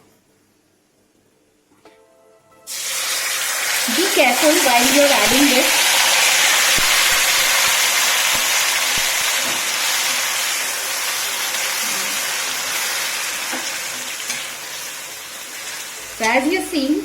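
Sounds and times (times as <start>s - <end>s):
chicken sizzling in hot fat: 2.7s - 17.0s.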